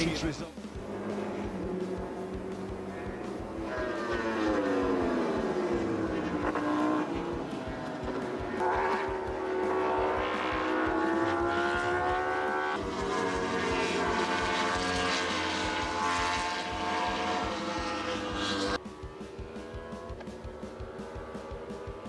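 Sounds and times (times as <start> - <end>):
racing motorcycle engines accelerating: 0.0 - 22.0.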